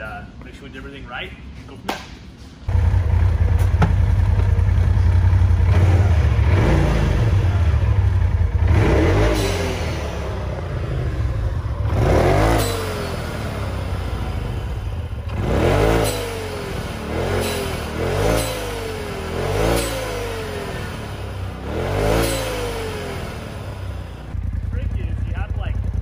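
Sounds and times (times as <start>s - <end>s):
engine revving: 2.7s - 26.0s.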